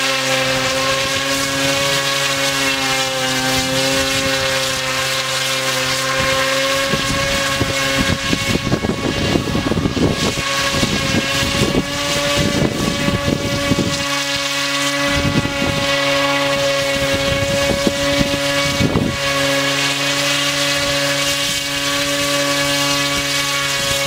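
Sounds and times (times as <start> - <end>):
drone propellers humming: 0.0 - 24.0
wind buffeting microphone: 0.3 - 24.0.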